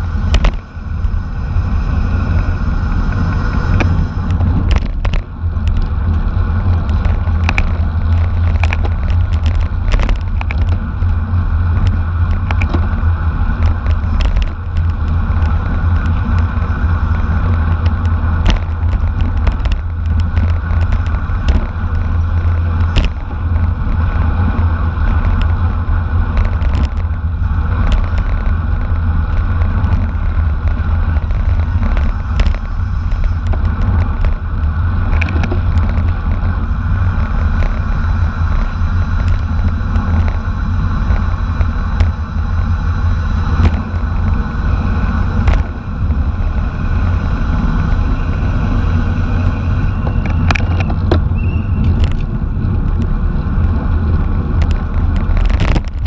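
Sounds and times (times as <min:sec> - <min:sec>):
bicycle tyre and drivetrain noise: 0:00.0 - 0:56.0
wind rushing on microphone: 0:00.0 - 0:56.0
bike clicks and knocks: 0:00.2 - 0:01.2, 0:03.1 - 0:42.7, 0:49.0 - 0:56.0.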